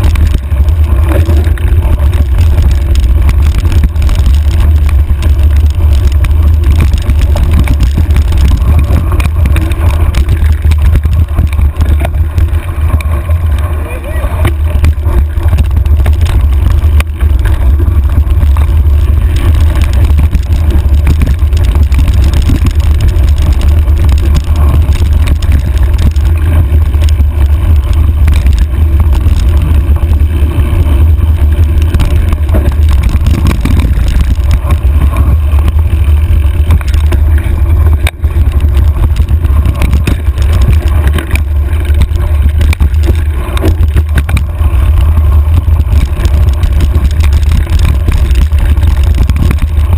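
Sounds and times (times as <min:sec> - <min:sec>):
bike rattling on dirt trail: 0:00.0 - 0:49.9
wind buffeting microphone: 0:00.0 - 0:49.9.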